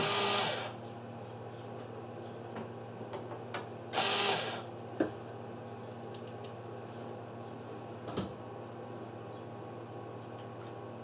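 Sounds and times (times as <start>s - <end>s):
welder transformer and fan hum: 0.0s - 11.0s.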